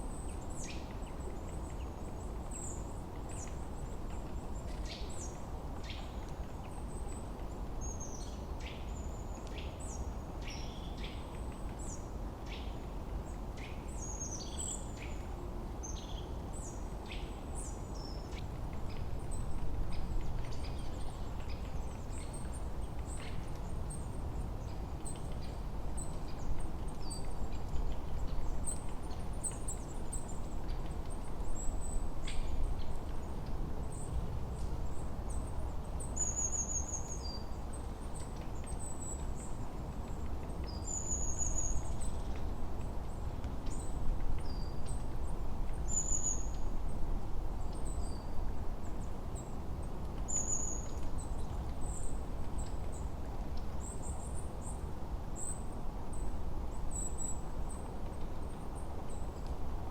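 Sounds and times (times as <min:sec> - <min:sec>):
low rush of wind: 0:00.0 - 0:59.9.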